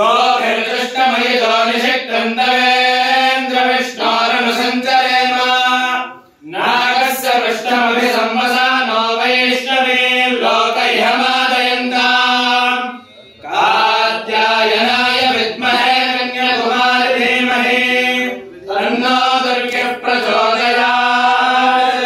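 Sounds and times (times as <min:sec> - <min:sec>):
mantra chanting: 0:00.0 - 0:22.0.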